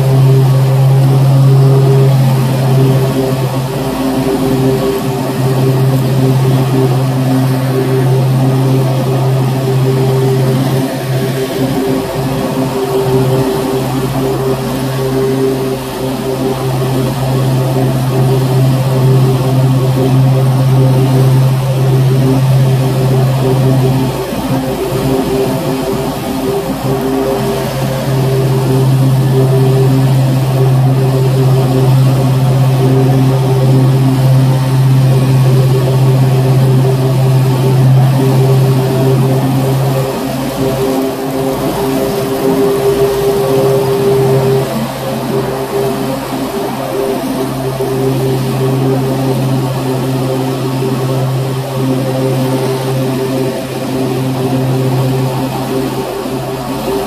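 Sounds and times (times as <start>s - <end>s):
lawn mower engine drone: 0.0s - 57.0s.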